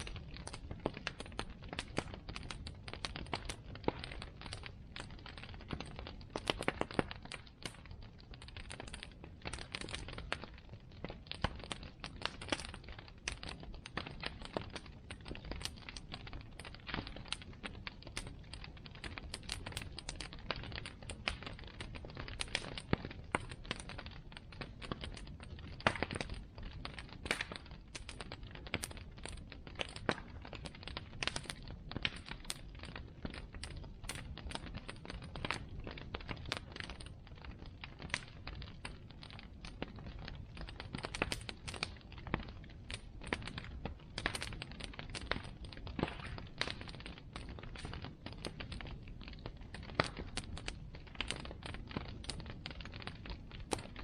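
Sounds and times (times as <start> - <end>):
bonfire crackling and popping: 0.0 - 54.0
low rush of flame: 0.0 - 54.0.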